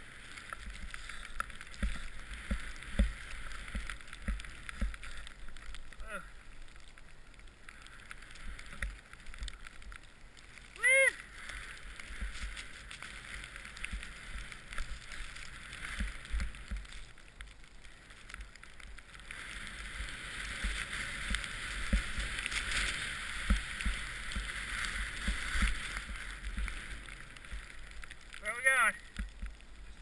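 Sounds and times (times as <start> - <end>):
skiing through powder snow hiss: 0.0 - 30.0.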